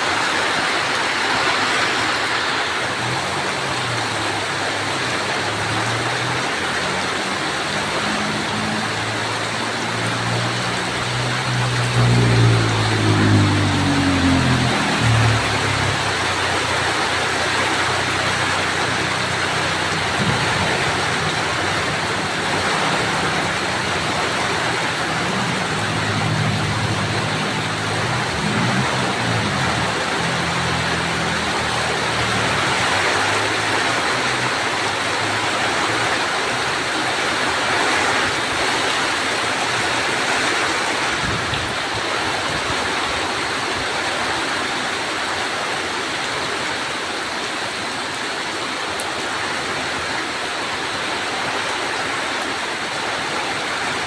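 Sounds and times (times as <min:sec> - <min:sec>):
heavy rain: 0:00.0 - 0:54.0
low engine hum: 0:00.1 - 0:48.1.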